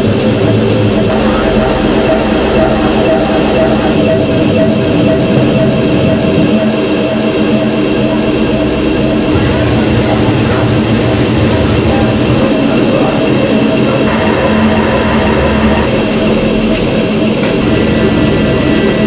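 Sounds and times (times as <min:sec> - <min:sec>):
dense electronic drone: 0:00.0 - 0:19.0
low bass note: 0:00.4 - 0:19.0
sustained high tones: 0:00.4 - 0:19.0.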